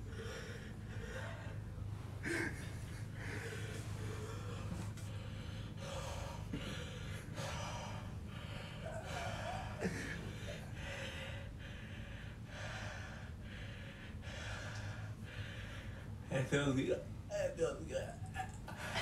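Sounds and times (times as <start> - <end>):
man panting hard: 0.0 - 16.2.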